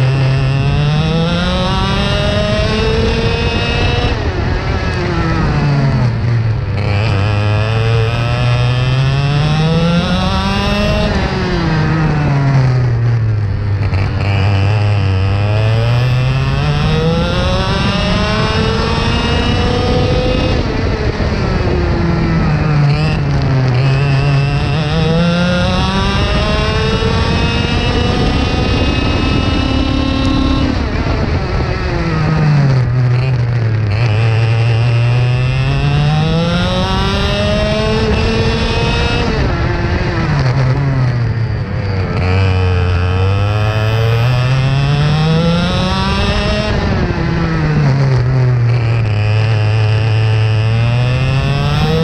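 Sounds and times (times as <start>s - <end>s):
kart engine at full throttle: 0.0s - 52.0s.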